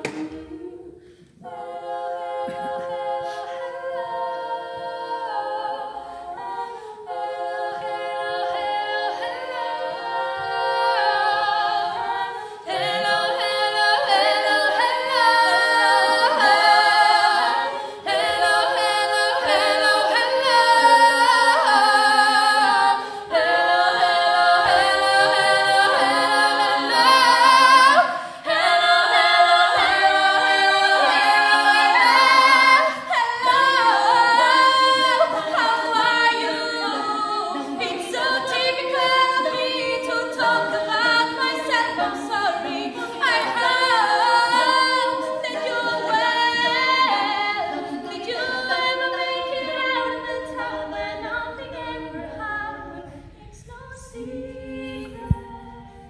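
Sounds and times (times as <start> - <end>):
women singing in harmony: 0.0 - 56.0.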